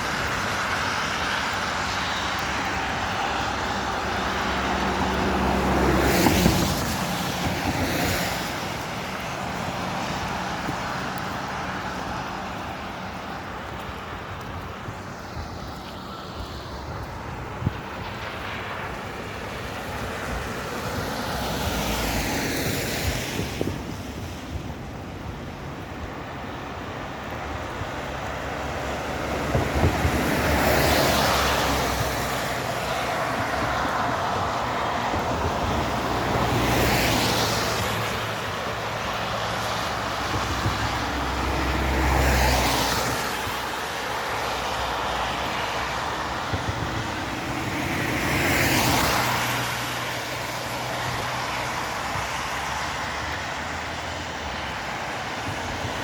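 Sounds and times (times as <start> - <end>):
vehicle passing on wet road: 0.0 - 56.0.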